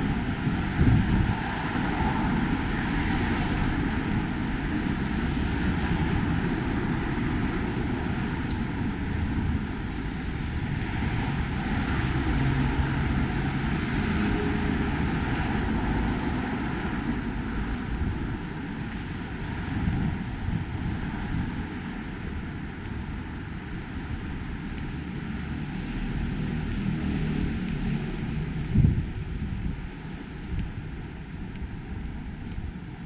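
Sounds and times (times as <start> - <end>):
vehicle traffic rumble: 0.0 - 33.0.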